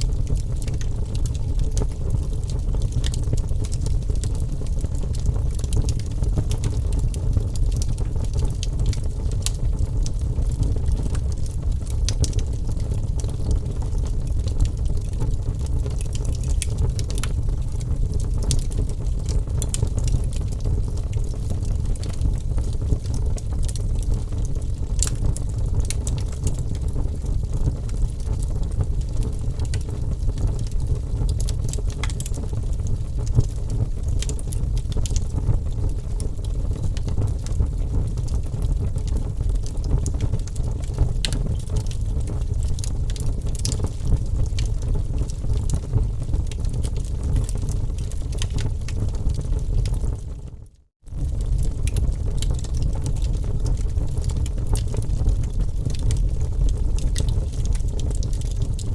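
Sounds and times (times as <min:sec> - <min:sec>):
burning logs crackling: 0:00.0 - 0:50.4, 0:51.1 - 0:58.9
fire flames rumbling: 0:00.0 - 0:58.9.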